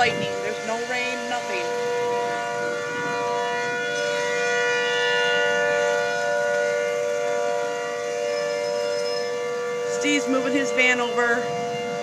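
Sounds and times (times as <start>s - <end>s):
tornado warning sirens: 0.0s - 12.0s.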